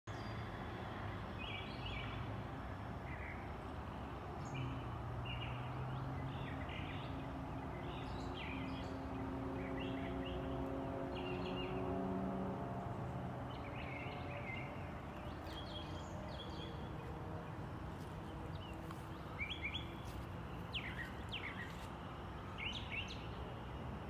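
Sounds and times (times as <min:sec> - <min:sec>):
steady background noise: 0:00.2 - 0:24.0
birds chirping: 0:03.1 - 0:23.8.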